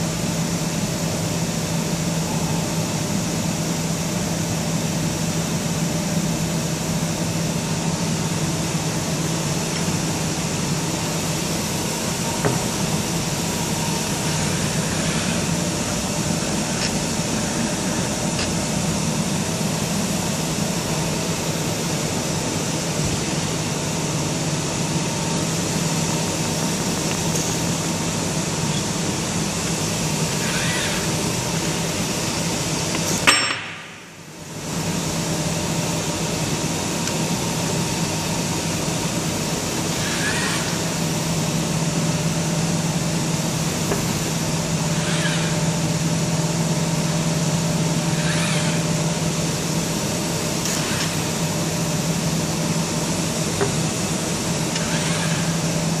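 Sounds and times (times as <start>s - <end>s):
cooling fans humming: 0.0s - 56.0s.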